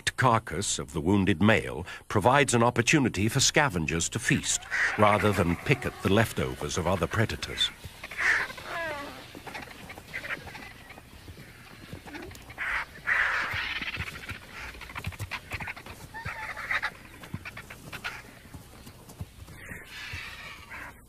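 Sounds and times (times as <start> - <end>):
vultures calling and squabbling: 3.2 - 21.0.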